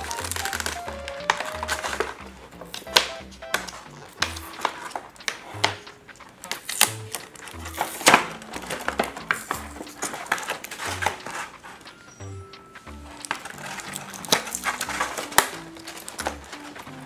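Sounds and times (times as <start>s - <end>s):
plastic toy pieces clattering: 0.0s - 2.2s, 2.8s - 12.0s, 13.0s - 17.0s
background music: 0.0s - 17.0s.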